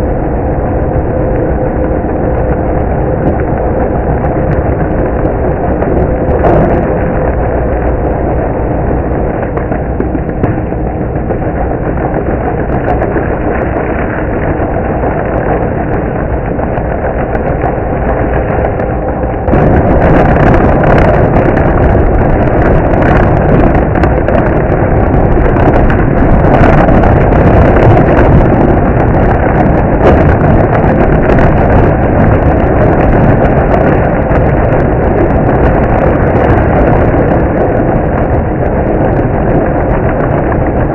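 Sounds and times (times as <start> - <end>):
crackling: 0.0 - 40.9.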